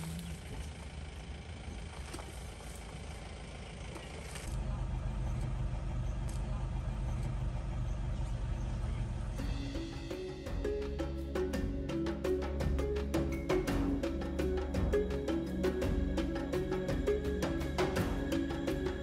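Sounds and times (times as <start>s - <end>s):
jeep engine idling: 0.0s - 19.0s.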